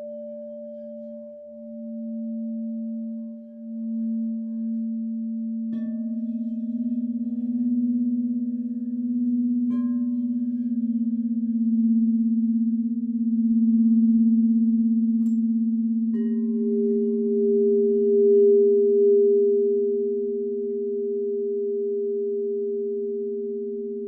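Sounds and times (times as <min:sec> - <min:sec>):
singing bowls ringing: 0:00.0 - 0:24.0.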